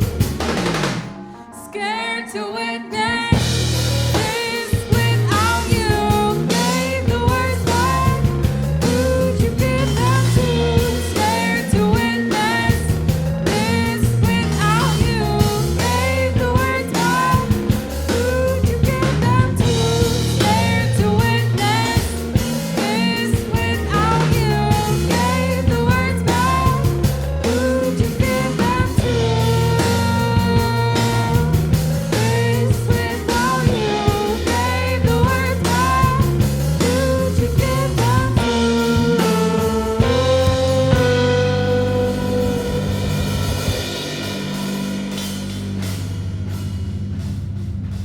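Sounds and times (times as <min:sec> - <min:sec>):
sliding bending lead guitar: 0:00.0 - 0:46.0
live band playing: 0:00.0 - 0:48.0
person singing: 0:01.1 - 0:44.0.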